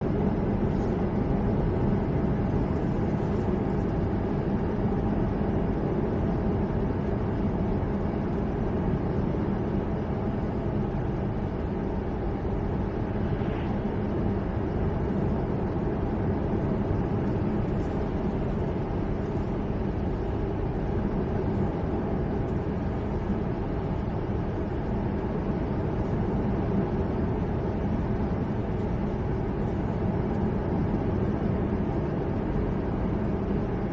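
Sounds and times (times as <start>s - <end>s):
car driving along road: 0.0s - 33.9s.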